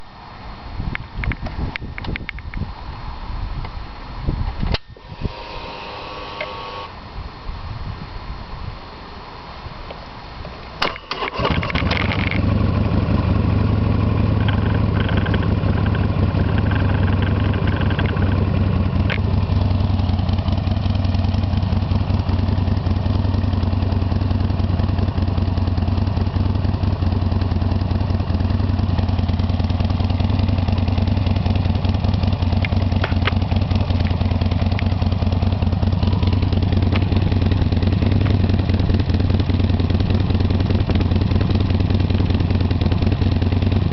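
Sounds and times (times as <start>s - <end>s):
motorcycle engine starting and idling: 4.5s - 7.0s, 10.7s - 43.9s.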